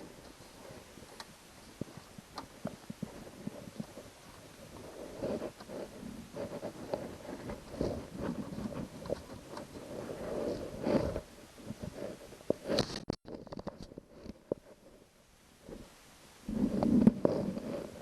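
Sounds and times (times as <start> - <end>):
rustling and scraping: 0.0 - 15.9, 16.5 - 18.0.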